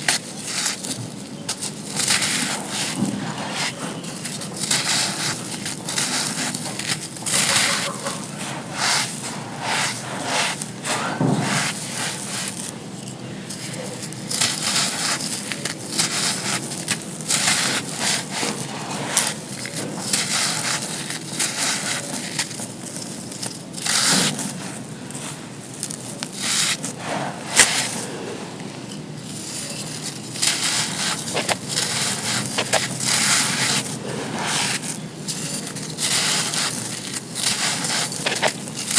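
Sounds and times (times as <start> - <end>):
sand crunching and crumbling: 0.0 - 38.9.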